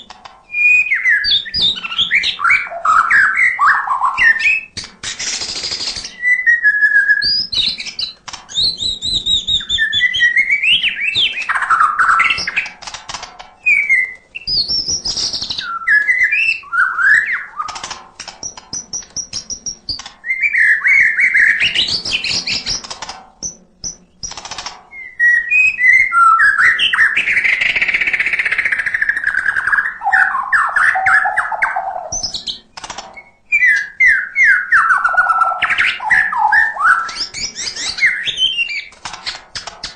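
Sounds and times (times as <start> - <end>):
songbird singing varied song: 0.0 - 12.7, 13.6 - 38.9.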